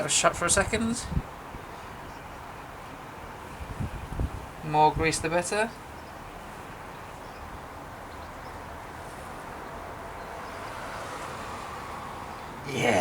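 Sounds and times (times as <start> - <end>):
wind rumble on microphone: 0.3 - 12.6.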